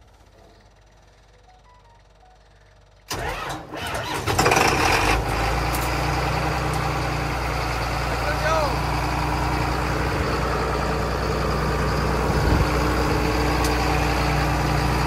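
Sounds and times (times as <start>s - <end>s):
diesel engine starting and idling: 0.0s - 15.0s.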